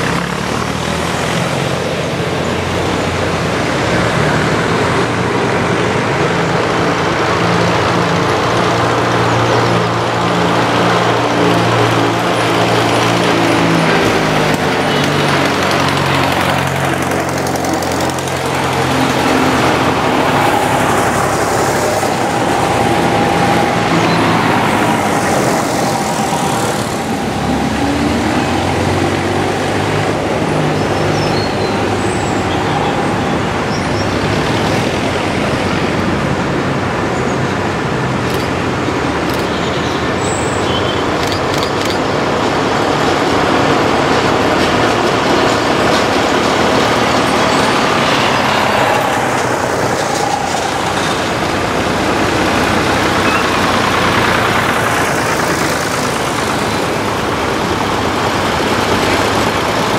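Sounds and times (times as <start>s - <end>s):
tractor engines passing: 0.0s - 59.9s.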